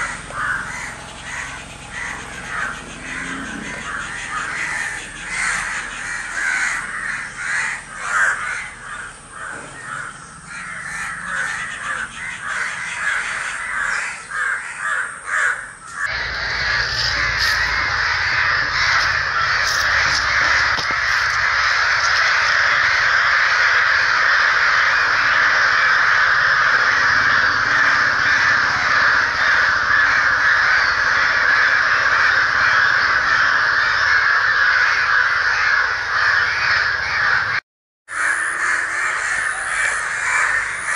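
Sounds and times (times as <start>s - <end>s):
crows cawing: 0.0s - 40.9s.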